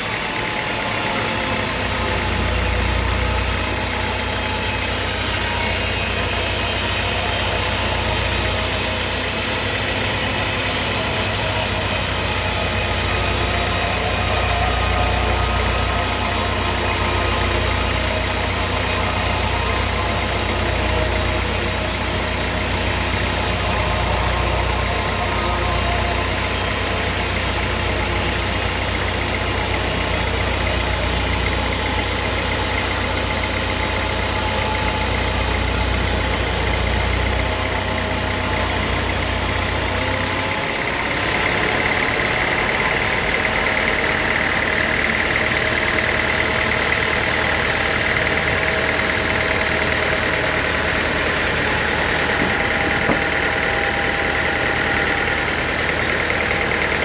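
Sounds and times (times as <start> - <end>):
high-pitched machine whine: 0.0 - 57.0
sawmill machinery hum: 0.0 - 57.0.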